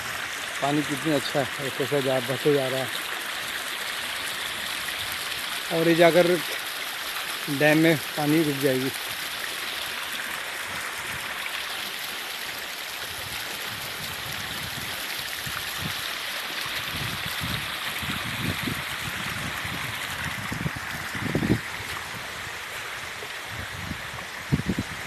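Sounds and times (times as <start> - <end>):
stream babbling over rocks: 0.0 - 25.0.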